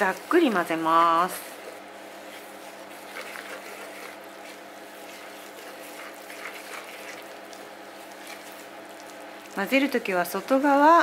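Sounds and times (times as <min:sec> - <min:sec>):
spatula scraping and squelching dough: 0:00.0 - 0:11.0.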